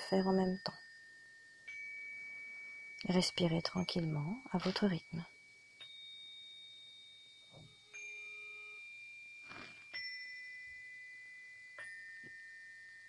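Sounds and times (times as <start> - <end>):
faint bell-like chime tones: 0.0 - 13.0.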